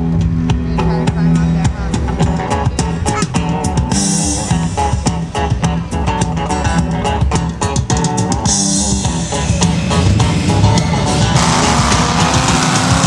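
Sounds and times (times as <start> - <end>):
drum kit beat: 0.0 - 13.0
song with guitar: 0.0 - 13.0.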